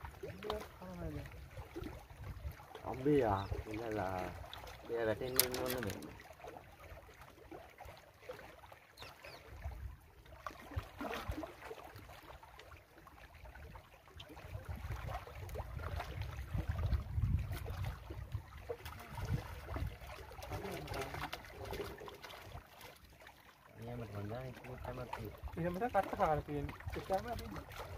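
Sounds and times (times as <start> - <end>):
water lapping against rocks: 0.0 - 27.9.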